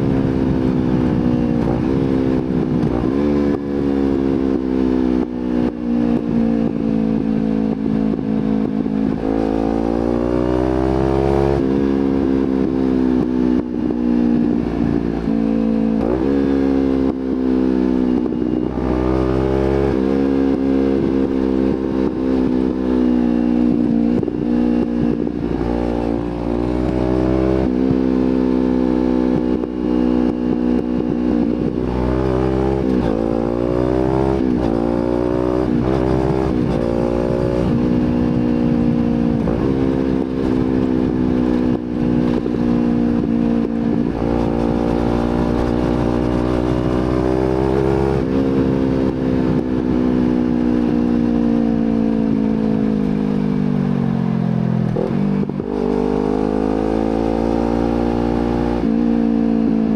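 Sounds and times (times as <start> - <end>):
low wind rumble: 0.0 - 59.9
motorcycle engine shifting gears: 0.0 - 59.9.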